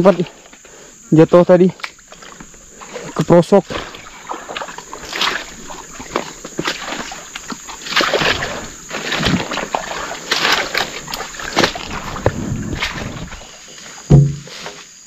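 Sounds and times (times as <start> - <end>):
feet wading through mud: 0.0 - 1.0, 1.7 - 14.7.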